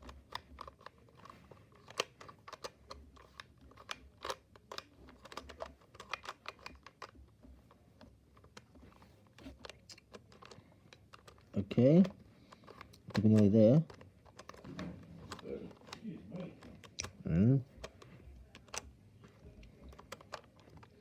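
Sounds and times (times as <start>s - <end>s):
plastic pieces clicking: 0.0s - 7.2s, 9.3s - 16.0s, 17.8s - 21.0s.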